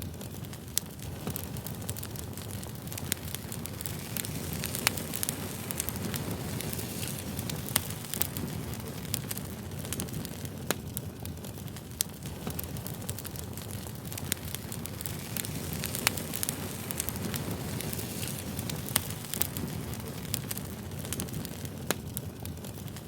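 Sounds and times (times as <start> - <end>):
burning wood crackling and popping: 0.0 - 23.0
campfire low rumble: 0.0 - 23.0.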